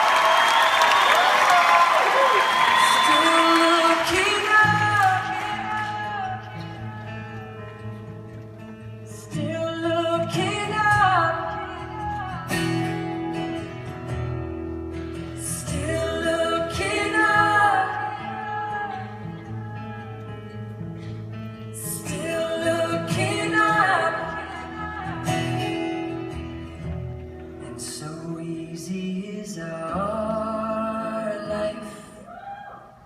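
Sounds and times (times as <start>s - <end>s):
acoustic guitar playing: 3.0s - 32.0s.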